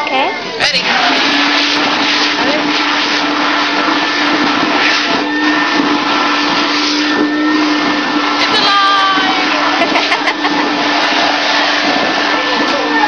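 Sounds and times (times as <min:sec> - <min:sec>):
stuffing machine blower humming: 0:00.1 - 0:13.0.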